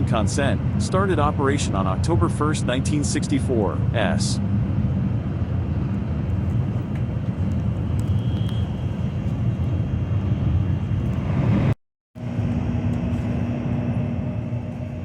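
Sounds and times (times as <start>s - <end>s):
high-speed train rumbling: 0.0s - 15.0s
steady low tone: 0.0s - 15.0s.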